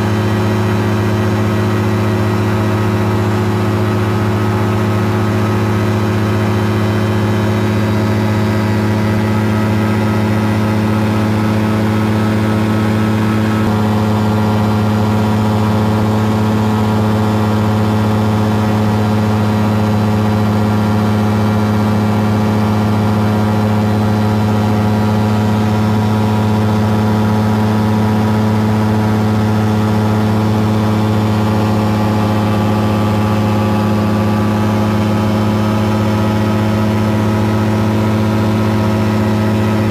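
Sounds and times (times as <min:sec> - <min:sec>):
aircraft engine and propeller droning: 0:00.0 - 0:39.9.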